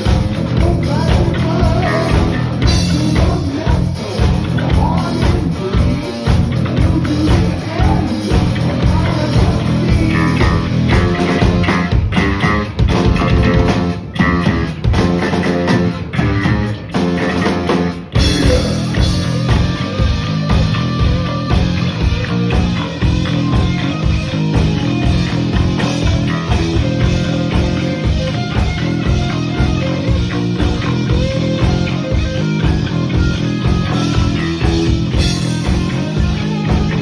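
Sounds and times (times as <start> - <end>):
drum kit driving beat: 0.0 - 37.0
electric guitars: 0.0 - 37.0.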